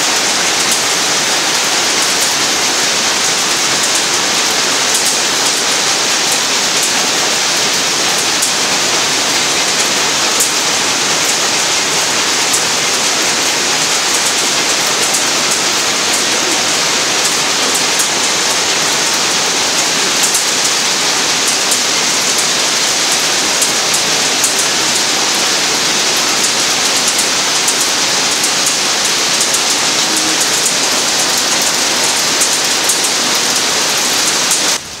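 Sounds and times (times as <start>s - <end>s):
peanuts rattling over sheet metal: 0.0s - 34.8s.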